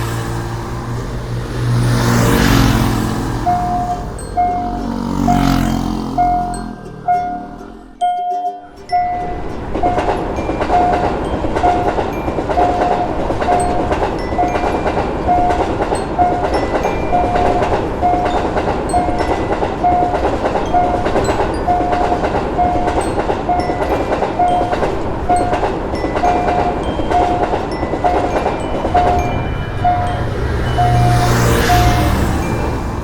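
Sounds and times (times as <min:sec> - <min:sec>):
train wheels clattering on track: 0:00.0 - 0:07.8, 0:09.0 - 0:33.0
level crossing alarm beeping: 0:00.0 - 0:33.0.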